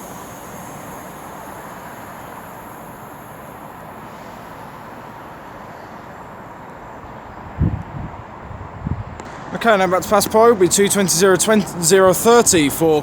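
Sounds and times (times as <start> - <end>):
faint high whine: 0.0 - 13.0
train rumble: 0.0 - 13.0.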